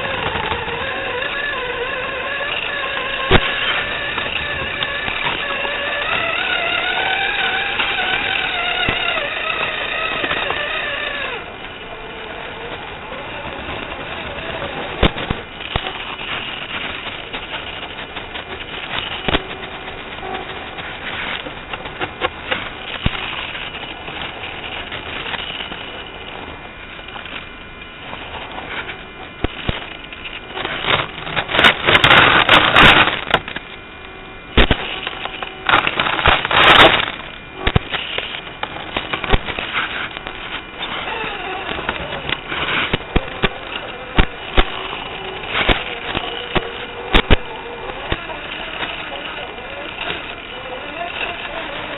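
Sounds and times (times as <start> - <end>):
motor and gears whining: 0.0 - 51.9
tyres crackling on ice: 0.0 - 51.9.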